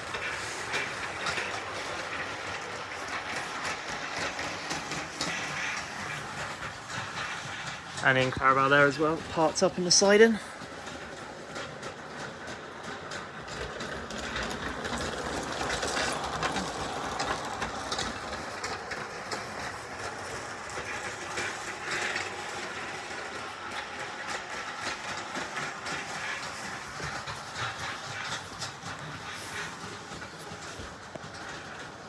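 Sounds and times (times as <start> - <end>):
clicks over rail joints: 0.0 - 32.0
model train motor whirring: 0.0 - 32.0.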